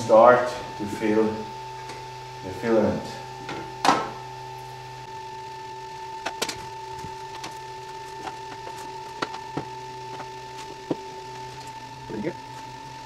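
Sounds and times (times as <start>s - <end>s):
low hum: 0.0s - 13.0s
three d printer whine: 0.0s - 13.0s.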